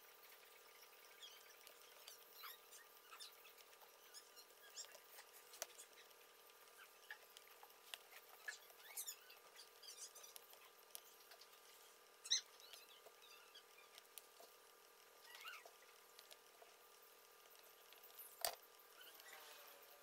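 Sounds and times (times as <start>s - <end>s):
small clicks and scratches: 0.0s - 20.0s
steady hum: 0.0s - 20.0s.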